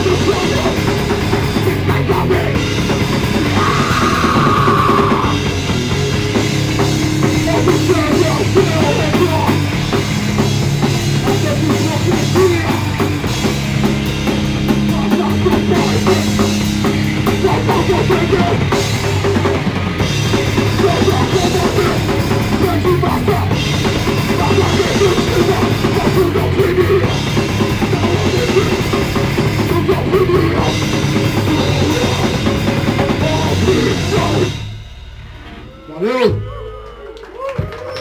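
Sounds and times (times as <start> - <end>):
live rock band playing: 0.0 - 36.4.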